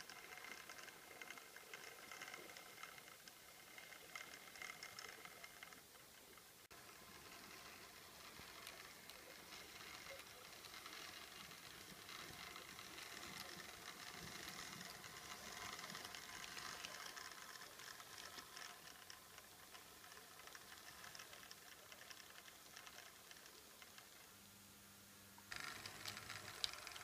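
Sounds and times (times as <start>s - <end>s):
model train whirring and ticking: 0.0s - 24.4s, 25.5s - 27.0s.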